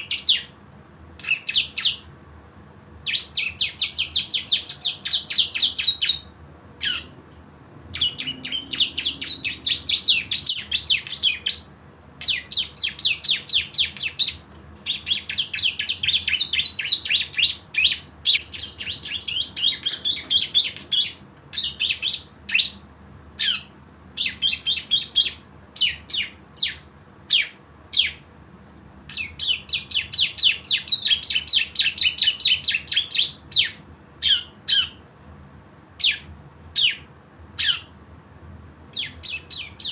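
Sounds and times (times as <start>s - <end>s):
bird singing rapid trills: 0.0s - 0.6s, 1.2s - 2.1s, 3.0s - 28.2s, 29.1s - 35.0s, 36.0s - 38.0s, 38.9s - 39.9s.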